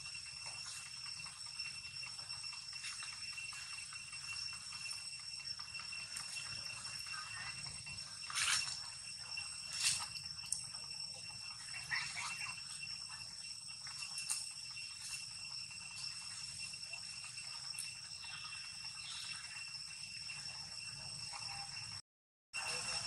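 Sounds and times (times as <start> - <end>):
insects droning: 0.0 - 22.0, 22.6 - 23.0.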